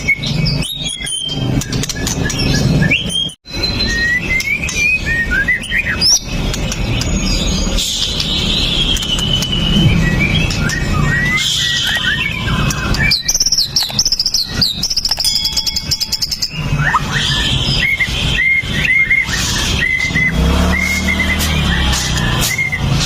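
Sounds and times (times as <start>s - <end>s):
bird singing whistled song: 0.0s - 23.0s.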